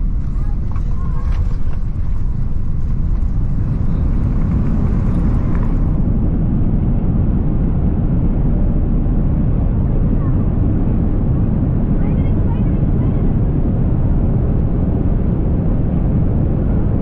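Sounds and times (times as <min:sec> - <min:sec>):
vehicle interior rumble: 0:00.0 - 0:17.0.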